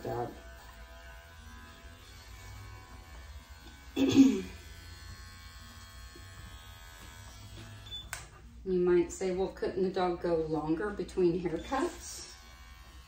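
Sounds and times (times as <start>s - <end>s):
electric dog clipper buzzing: 0.0s - 8.4s, 10.4s - 13.0s.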